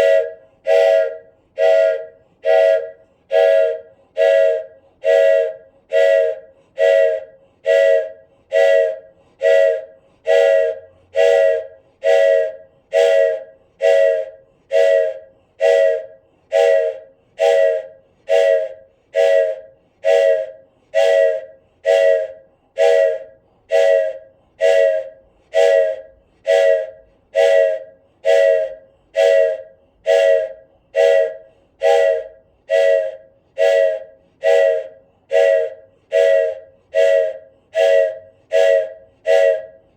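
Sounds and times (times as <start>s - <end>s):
wooden train whistle toots: 0.0s - 39.9s.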